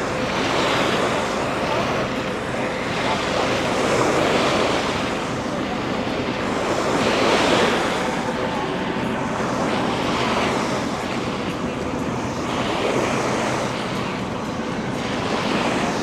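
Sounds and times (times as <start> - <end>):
faint engine drone: 0.0 - 16.0
ocean surf washing ashore: 0.0 - 16.0.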